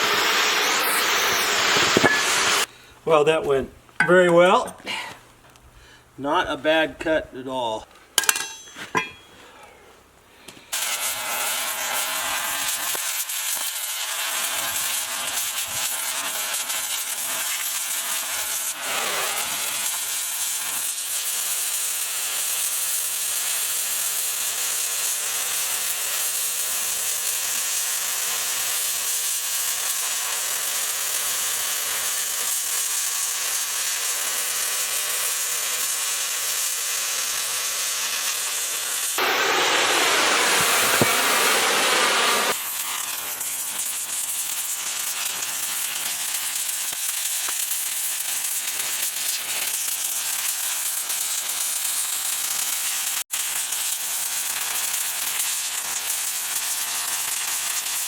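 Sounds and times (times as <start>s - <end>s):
cutting torch hissing: 0.0s - 2.7s, 10.7s - 58.0s.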